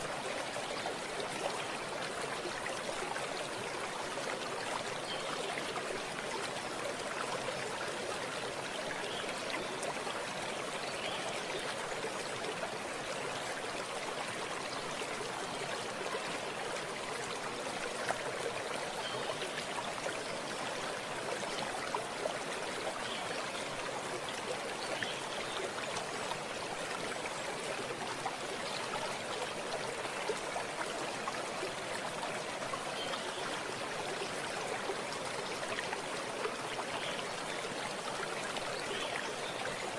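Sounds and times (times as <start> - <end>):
stream flowing and burbling: 0.0 - 39.9.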